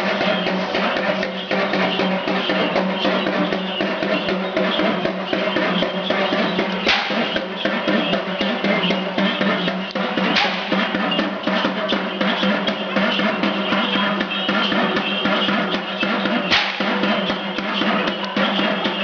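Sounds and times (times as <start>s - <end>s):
dhol drumming fast rhythm: 0.0s - 19.0s.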